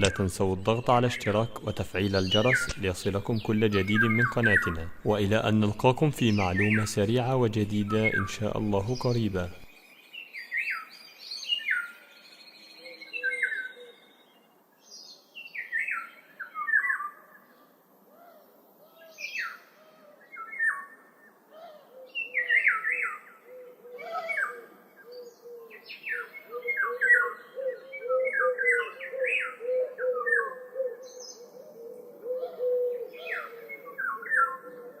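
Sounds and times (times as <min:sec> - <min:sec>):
low bird warbling: 0:00.0 - 0:09.7, 0:11.6 - 0:14.3, 0:18.1 - 0:35.0.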